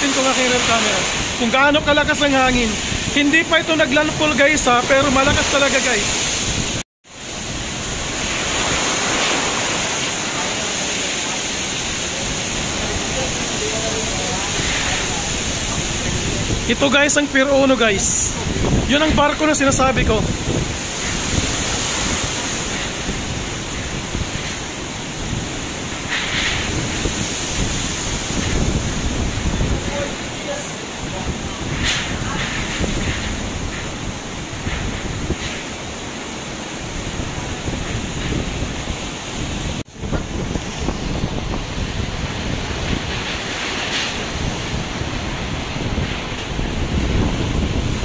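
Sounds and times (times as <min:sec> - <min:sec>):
heavy waves breaking: 0:00.0 - 0:48.0
strong wind buffeting microphone: 0:00.0 - 0:48.0.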